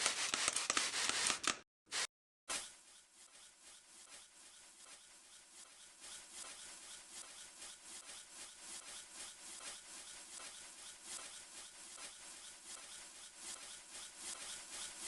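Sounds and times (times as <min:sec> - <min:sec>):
cloth rubbing on glass: 0:02.5 - 0:15.0.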